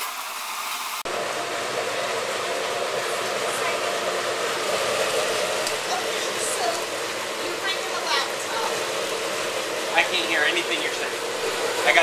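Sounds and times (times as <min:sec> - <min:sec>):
meat and onions sizzling on griddle: 0:00.0 - 0:12.0.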